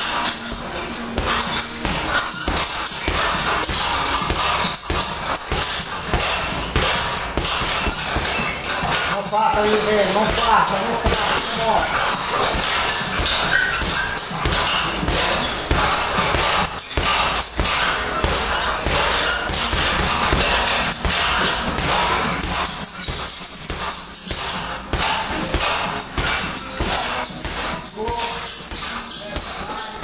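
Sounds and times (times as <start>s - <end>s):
gloved punches on a heavy bag: 0.0s - 30.0s.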